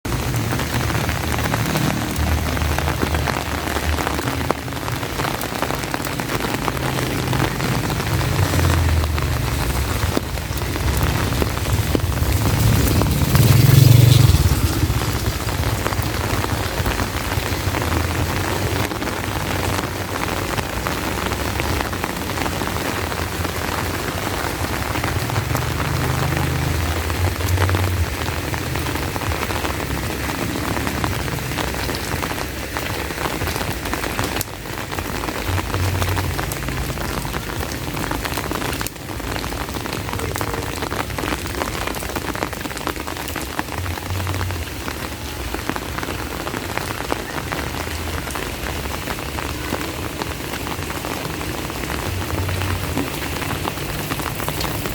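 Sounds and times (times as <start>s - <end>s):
heavy rain pouring: 0.0s - 54.9s
low rumbles: 0.0s - 54.9s.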